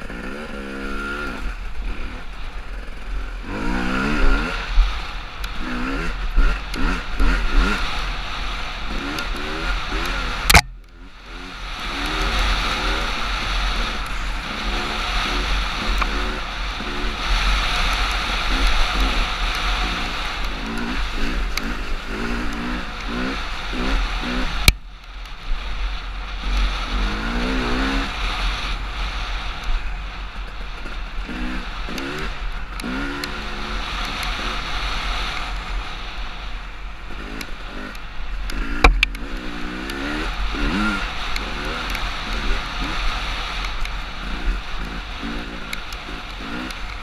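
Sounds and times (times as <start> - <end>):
off-road vehicle engine revving: 0.0 - 24.8, 25.6 - 29.7, 30.4 - 47.0
wind rumble on microphone: 0.0 - 47.0.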